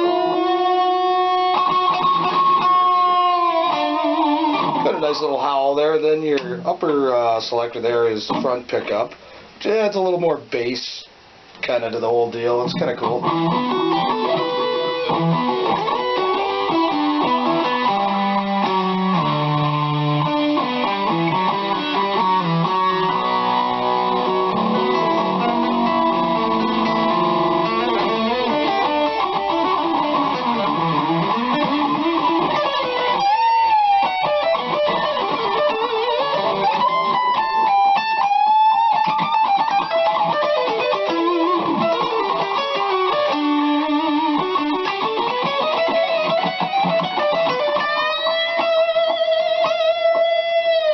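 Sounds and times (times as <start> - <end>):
distorted electric guitar lines: 0.0 - 50.9.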